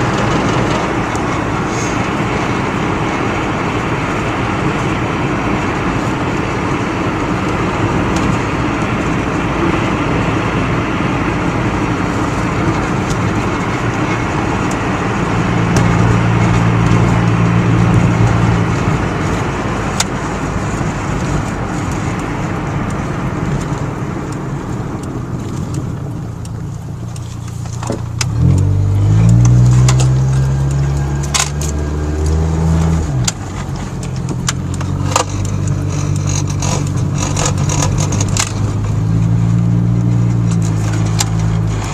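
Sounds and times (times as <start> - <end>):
road noise: 0.0 - 41.9
truck engine hum: 0.0 - 41.9.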